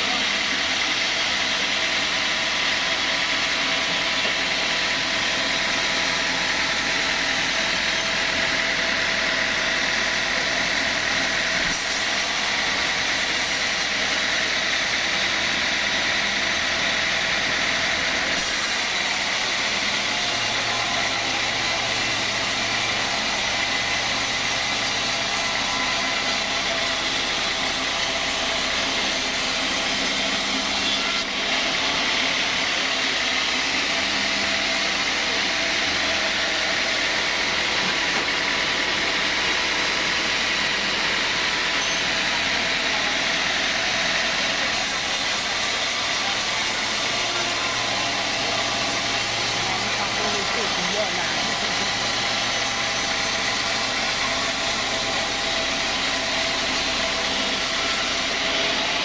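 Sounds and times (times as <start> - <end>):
sawmill machinery drone: 0.0 - 59.0.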